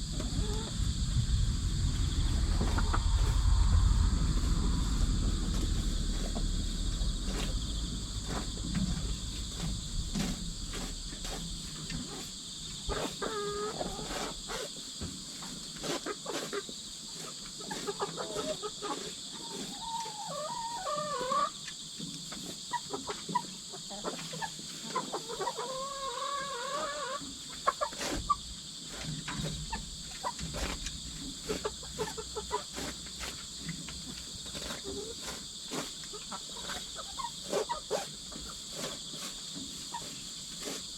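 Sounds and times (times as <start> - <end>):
crickets and insects chirring: 0.0 - 40.9.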